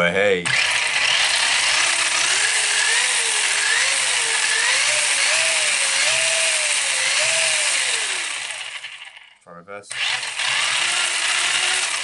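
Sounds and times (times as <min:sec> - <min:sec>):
electric motor whirring and whining: 0:00.4 - 0:09.3, 0:09.9 - 0:12.0.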